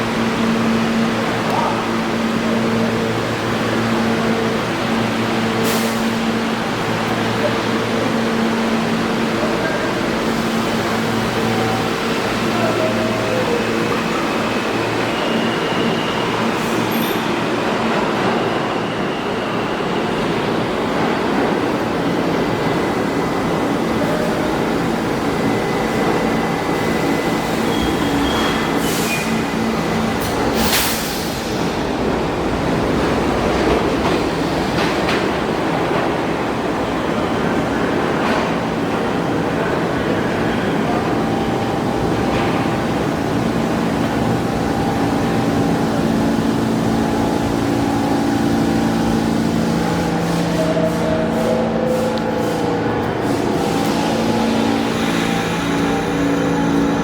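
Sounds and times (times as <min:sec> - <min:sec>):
subway car rumble: 0:00.0 - 0:57.0.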